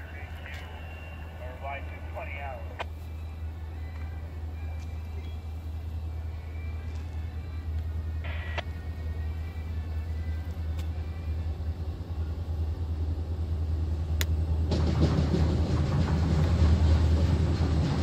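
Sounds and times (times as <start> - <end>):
locomotive engine rumble: 0.0 - 18.0
train rumble: 0.0 - 18.0.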